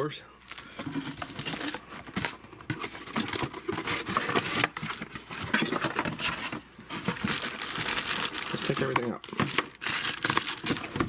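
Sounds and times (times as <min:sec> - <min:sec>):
packaging crackling and rustling: 0:00.5 - 0:11.0.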